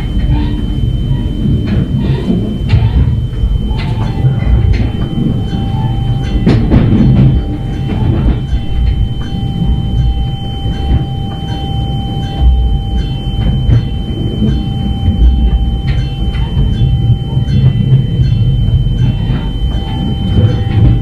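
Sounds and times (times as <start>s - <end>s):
thin steady whine: 0.0s - 21.0s
train low rumble: 0.0s - 21.0s.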